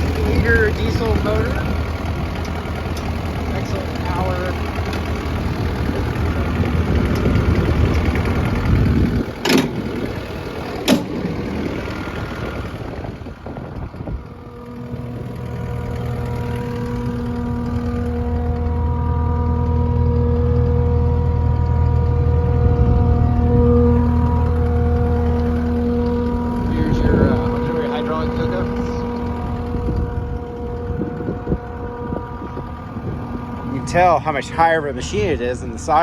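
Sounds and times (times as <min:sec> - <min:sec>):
diesel engine idling: 0:00.0 - 0:36.0
steady hum: 0:00.0 - 0:36.0.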